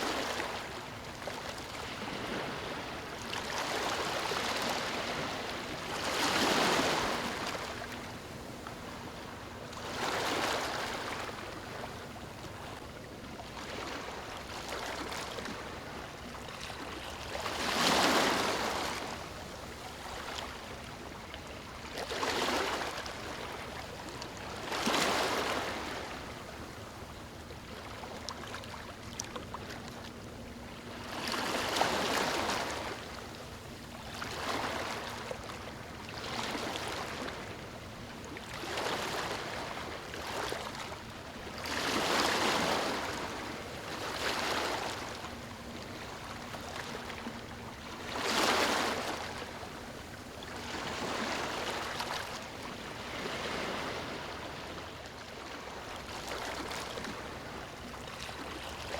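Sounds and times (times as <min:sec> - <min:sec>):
small waves lapping on beach: 0:00.0 - 0:58.9.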